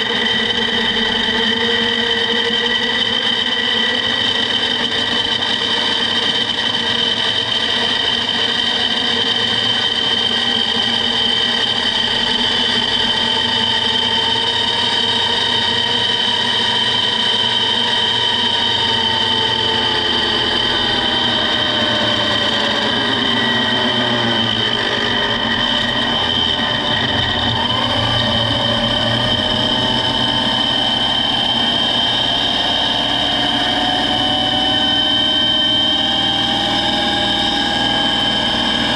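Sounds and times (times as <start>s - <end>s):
gear train whining at high speed: 0.0s - 38.9s.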